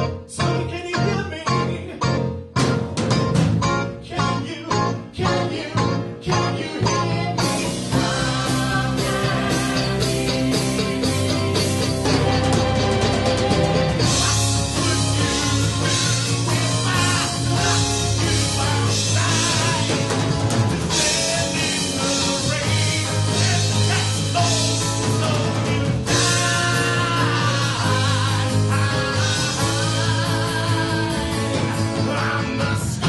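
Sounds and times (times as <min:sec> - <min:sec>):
drum kit: 0:00.0 - 0:33.0
rock band music: 0:00.0 - 0:33.0
person singing: 0:04.0 - 0:20.2, 0:20.9 - 0:33.0.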